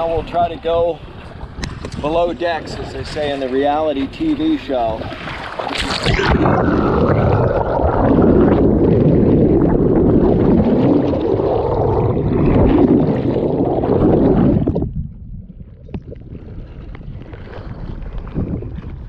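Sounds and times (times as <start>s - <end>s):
water rushing along boat hull: 0.0s - 19.0s.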